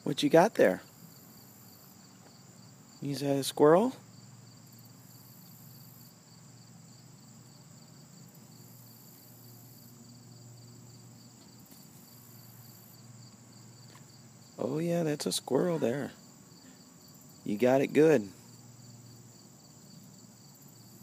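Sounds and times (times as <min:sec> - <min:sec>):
crickets trilling: 0:00.0 - 0:21.0
high hissing insect buzz: 0:00.7 - 0:21.0.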